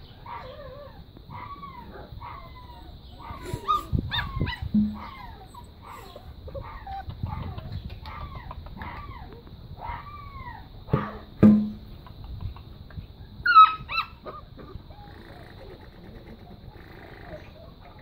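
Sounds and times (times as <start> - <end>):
puppies whining and yipping: 0.0 - 11.2, 13.4 - 18.0.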